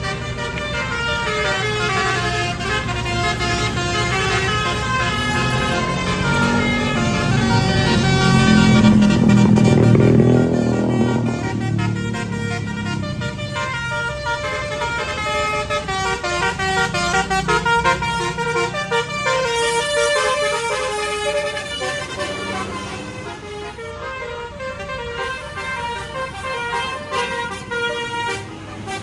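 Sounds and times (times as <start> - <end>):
low vehicle rumble: 0.0 - 29.0
musical air horn tune: 0.0 - 29.0.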